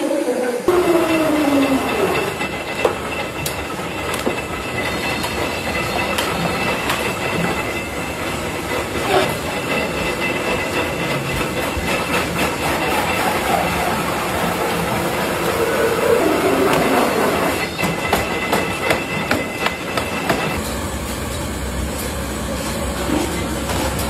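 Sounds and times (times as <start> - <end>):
factory machinery rattling: 0.0 - 24.0.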